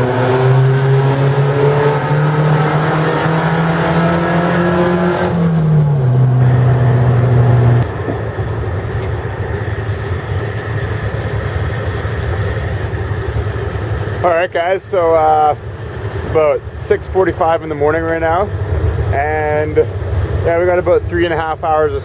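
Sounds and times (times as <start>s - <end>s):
car engine accelerating: 0.0s - 22.0s
road noise: 0.0s - 22.0s.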